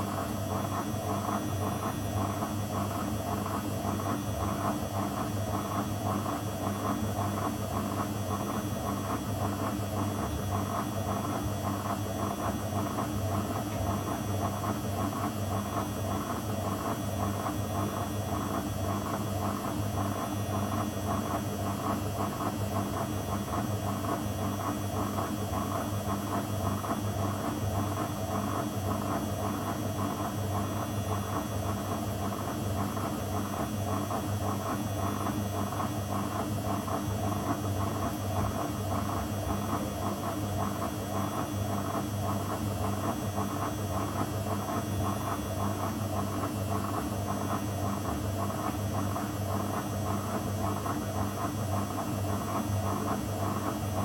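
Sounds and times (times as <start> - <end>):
washing machine motor humming: 0.0 - 54.0.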